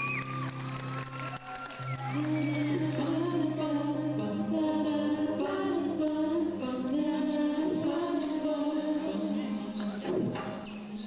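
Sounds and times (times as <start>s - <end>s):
voices singing slow melody: 1.8s - 11.0s.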